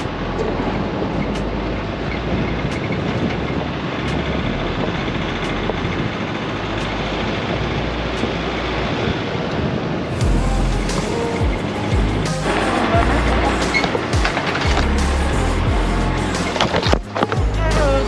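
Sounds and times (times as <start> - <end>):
off-road vehicle driving on dirt: 0.0 - 18.0.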